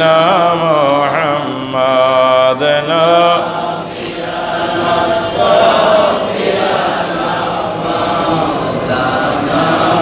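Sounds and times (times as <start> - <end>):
men chanting melodically: 0.0 - 10.0.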